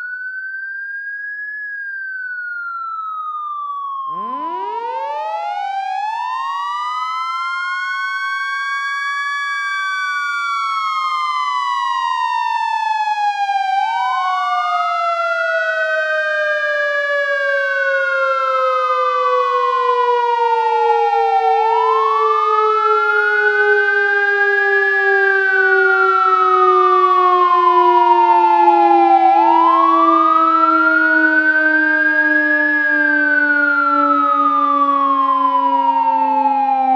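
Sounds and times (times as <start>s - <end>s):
siren wailing: 0.0s - 36.9s
low siren tone sinking: 1.8s - 36.9s.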